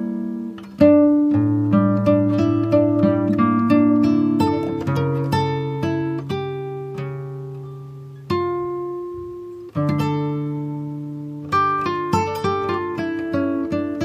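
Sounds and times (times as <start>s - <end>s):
plucked string instrument chords: 0.0s - 14.0s.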